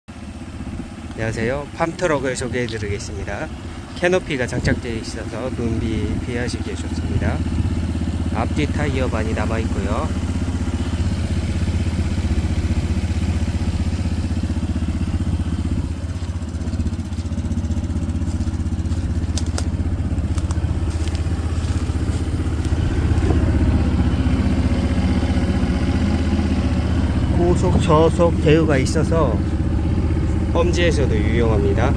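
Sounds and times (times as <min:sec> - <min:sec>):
truck engine running: 0:00.1 - 0:31.9.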